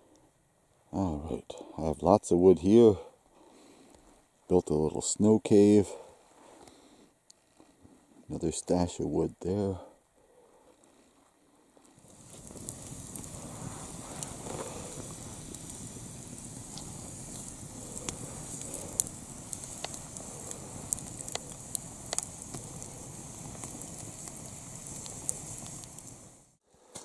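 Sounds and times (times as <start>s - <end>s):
campfire crackling and popping: 2.6s - 27.0s.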